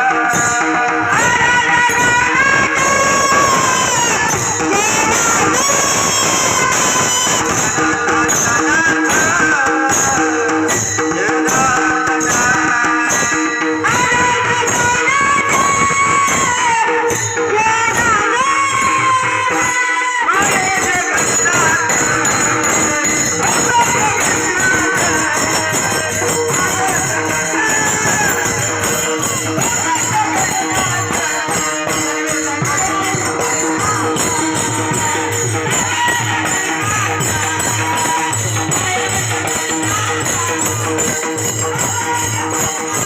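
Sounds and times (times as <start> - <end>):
hand cymbals struck fast: 0.0 - 43.0
person singing: 0.0 - 43.0.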